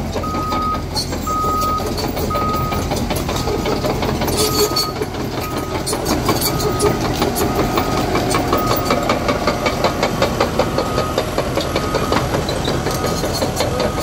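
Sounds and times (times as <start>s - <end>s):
diesel engine running: 0.0s - 14.0s
steel tracks clattering in dirt: 0.0s - 14.0s
reversing alarm beeps: 0.2s - 3.6s, 4.4s - 9.2s, 10.7s - 14.0s.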